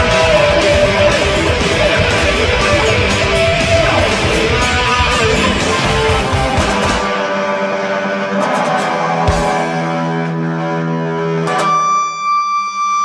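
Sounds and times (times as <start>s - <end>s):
electric guitar: 0.0s - 13.0s.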